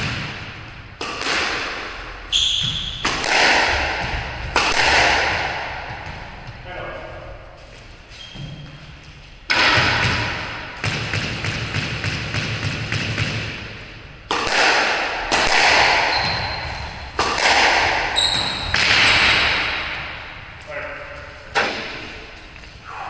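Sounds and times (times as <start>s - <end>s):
squash ball hits echoing: 0.0s - 6.9s, 9.5s - 23.0s.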